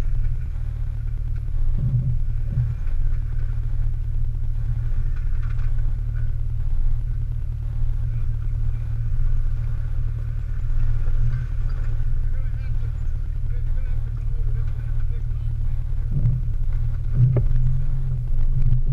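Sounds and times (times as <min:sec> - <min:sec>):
engine running at low revs: 0:00.0 - 0:18.9.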